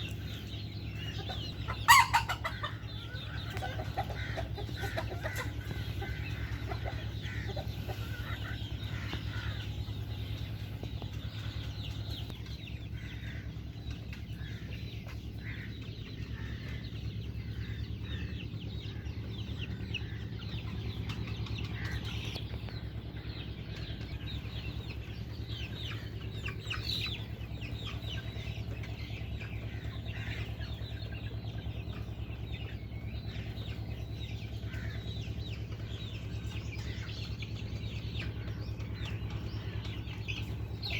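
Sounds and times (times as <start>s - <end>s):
chickens clucking and chirping: 0.0s - 40.9s
steady low hum: 0.0s - 40.9s.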